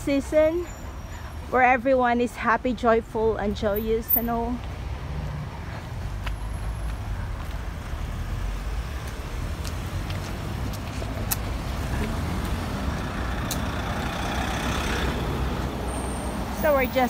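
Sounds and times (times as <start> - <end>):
passing cars rumbling: 2.6 - 17.0.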